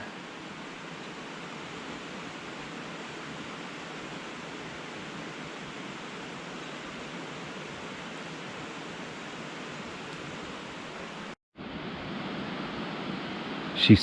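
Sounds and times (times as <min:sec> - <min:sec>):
river rushing: 0:00.0 - 0:13.9.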